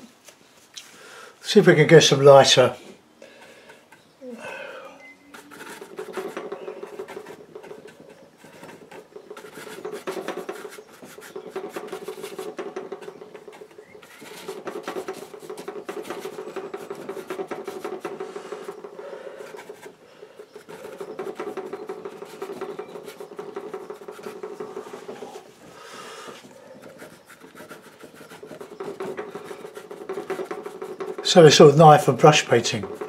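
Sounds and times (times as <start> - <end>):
bristle brush scrubbing paint: 5.1 - 33.0.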